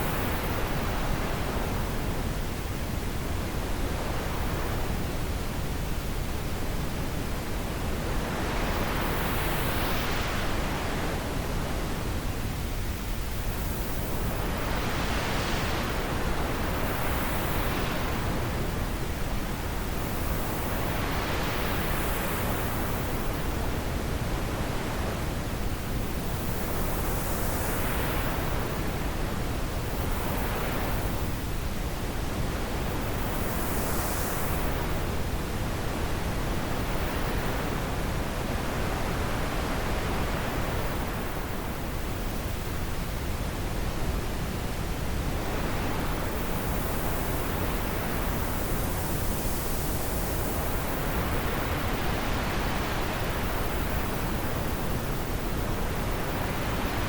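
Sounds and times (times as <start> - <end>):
wind blowing in gusts: 0.0 - 57.0.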